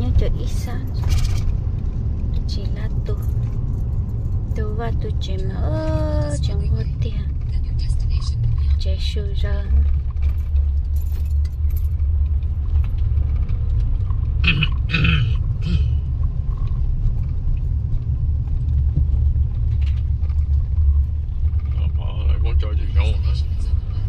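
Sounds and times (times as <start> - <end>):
road noise inside moving car: 0.0 - 24.0.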